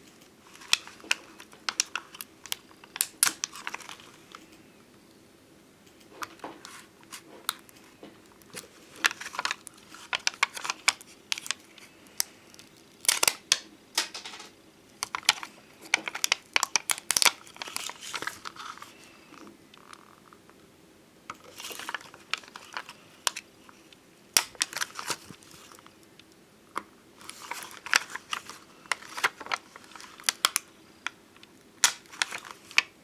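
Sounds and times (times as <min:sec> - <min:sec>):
stickers crinkling and peeling: 0:00.4 - 0:04.6, 0:06.0 - 0:14.2, 0:15.0 - 0:20.1, 0:21.3 - 0:23.5, 0:24.4 - 0:26.0, 0:27.2 - 0:33.0.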